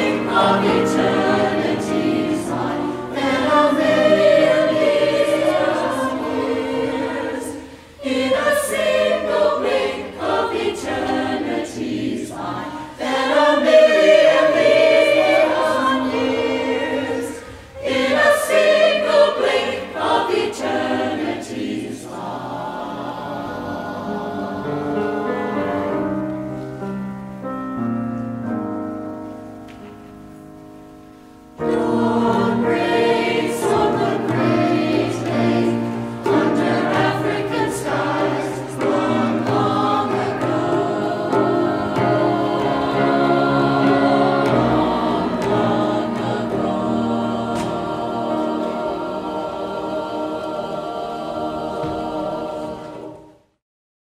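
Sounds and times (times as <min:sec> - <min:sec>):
choir singing with accompaniment: 0:00.0 - 0:27.5, 0:28.2 - 0:53.6.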